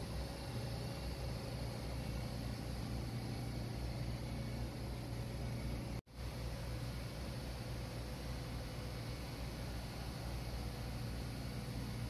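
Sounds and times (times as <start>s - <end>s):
compressor machine hum: 0.0s - 12.0s
engine-room machinery noise: 0.0s - 12.0s
faint constant whine: 0.0s - 12.0s.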